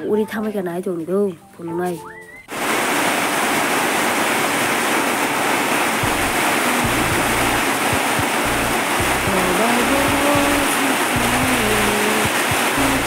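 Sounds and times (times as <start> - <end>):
heavy rain on a metal roof: 2.5 - 13.0.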